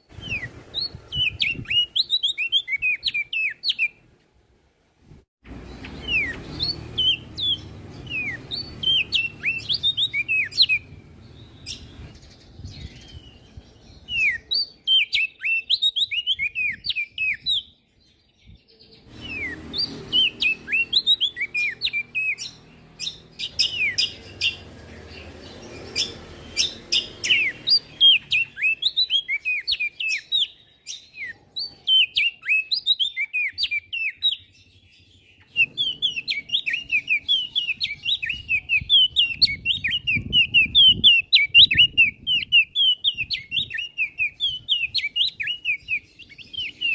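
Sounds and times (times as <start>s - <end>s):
songbird singing sharp chirps: 0.0s - 4.2s, 5.4s - 46.9s.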